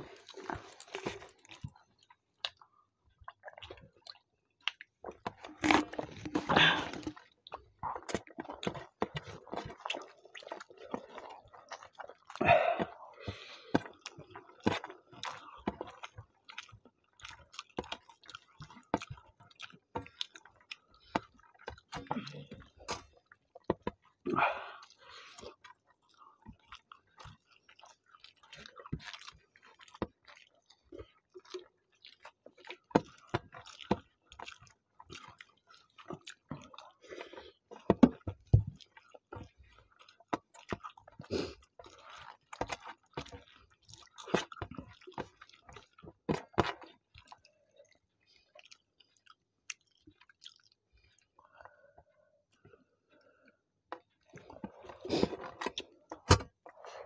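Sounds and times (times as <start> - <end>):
chewing and wet mouth sounds: 0.0 - 57.0.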